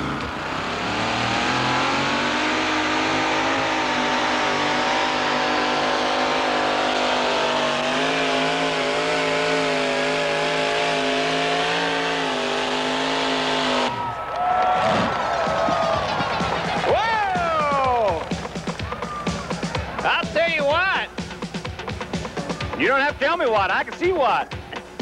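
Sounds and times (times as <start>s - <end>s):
truck engine running at high pitch: 0.0s - 14.2s, 14.8s - 25.0s.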